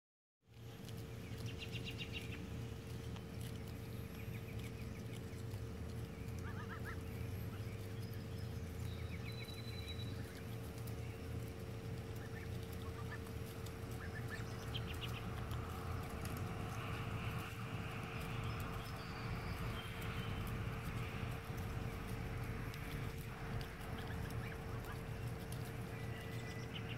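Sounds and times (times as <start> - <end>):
faint steady hum: 0.5 - 26.9
low rumble: 0.6 - 26.9
goslings peeping: 0.7 - 26.9.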